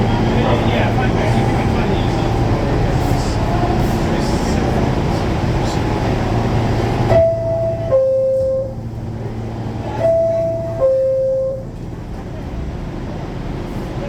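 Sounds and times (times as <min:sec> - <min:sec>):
subway car rumbling: 0:00.0 - 0:14.0.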